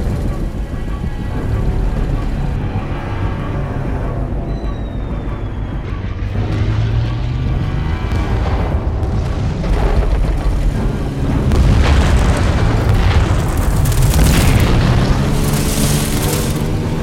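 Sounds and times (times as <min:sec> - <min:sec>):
low droning musical score: 0:00.0 - 0:17.0.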